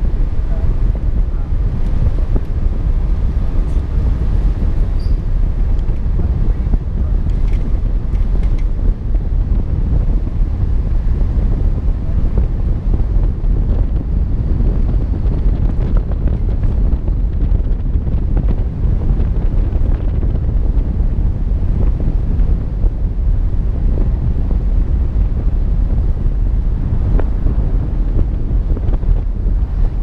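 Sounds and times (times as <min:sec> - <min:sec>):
vehicle road noise: 0:00.0 - 0:30.0
wind buffeting microphone: 0:00.0 - 0:30.0.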